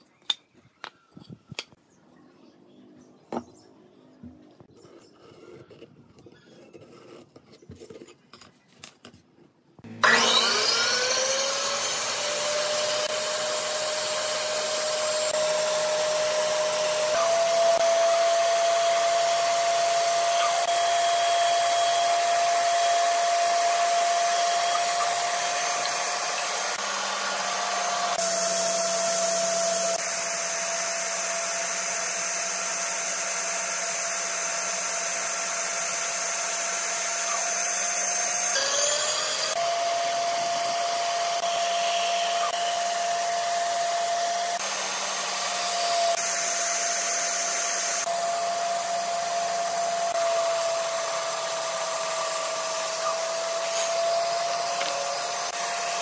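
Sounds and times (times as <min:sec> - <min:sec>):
bandsaw cutting wood: 0:09.8 - 0:56.0.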